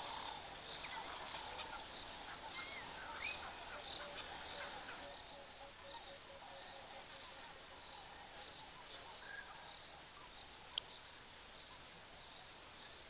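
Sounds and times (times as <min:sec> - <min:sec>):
insects and frogs chorus: 0:00.0 - 0:13.0.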